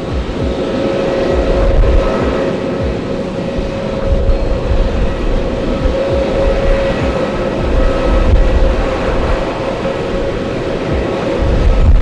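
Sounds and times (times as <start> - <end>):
jet engines running: 0.0 - 12.0
wind buffeting microphone: 0.0 - 12.0.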